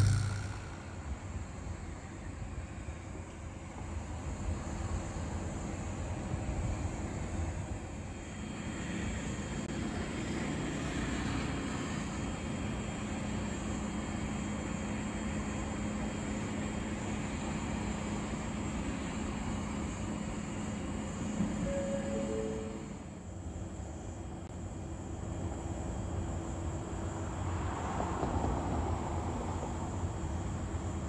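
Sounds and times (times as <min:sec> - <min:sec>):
constant low hum: 0:00.0 - 0:27.2
train rumbling: 0:00.0 - 0:31.0.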